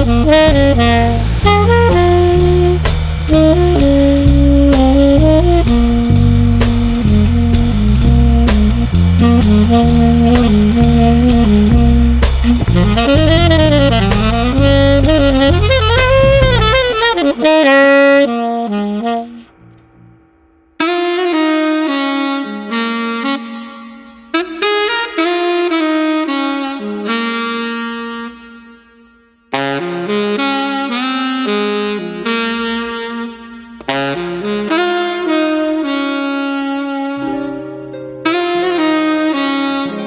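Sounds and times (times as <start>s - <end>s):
saxophone melody: 0.0s - 20.1s, 20.8s - 40.0s
jazz music: 0.0s - 28.0s, 30.1s - 40.0s.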